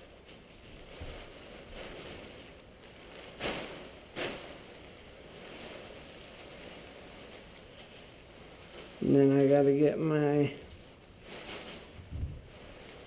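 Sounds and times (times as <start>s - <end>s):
fabric swishes: 0.0s - 9.1s, 11.2s - 13.0s
parachute fabric rustling: 0.0s - 13.0s.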